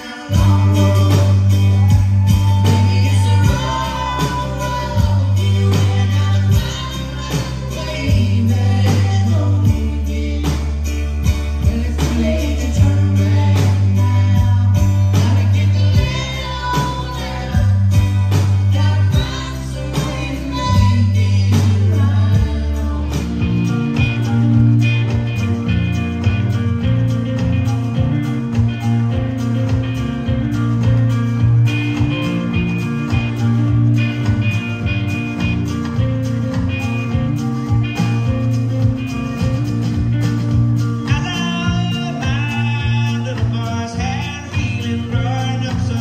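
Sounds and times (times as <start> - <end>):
drums: 0.0 - 46.0
electric guitar: 0.0 - 46.0
live band playing: 0.0 - 46.0
person singing: 0.0 - 46.0.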